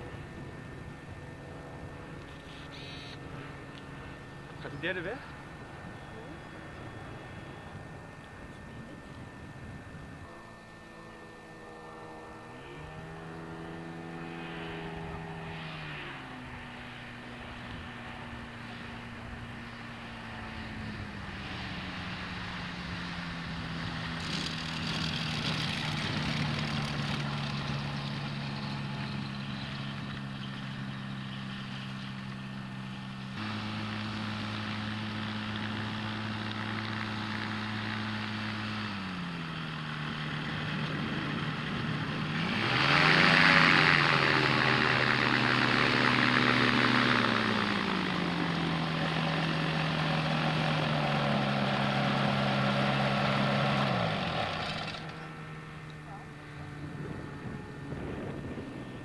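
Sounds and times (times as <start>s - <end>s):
propeller plane engine: 0.0s - 59.0s.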